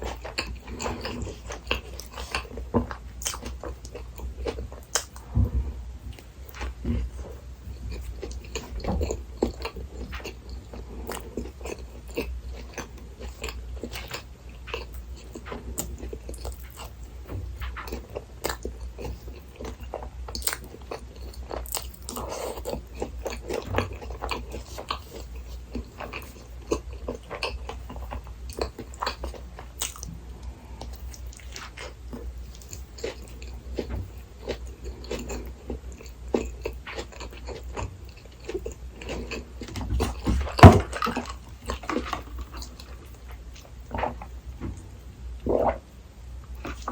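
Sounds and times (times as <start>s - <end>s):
low steady hum: 0.0s - 46.9s
person chewing food: 0.0s - 46.9s.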